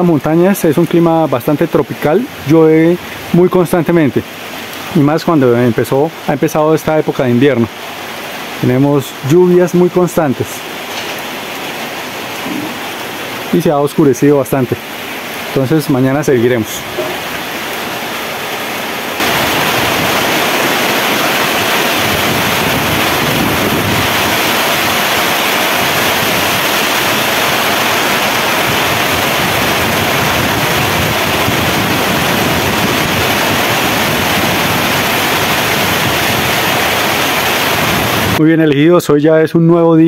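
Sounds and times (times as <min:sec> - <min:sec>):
heavy rain falling: 0:00.0 - 0:38.4.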